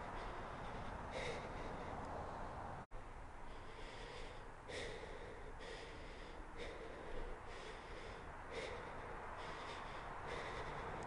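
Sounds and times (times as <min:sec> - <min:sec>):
heavy breathing through mouth: 0:00.0 - 0:02.8, 0:03.4 - 0:11.0.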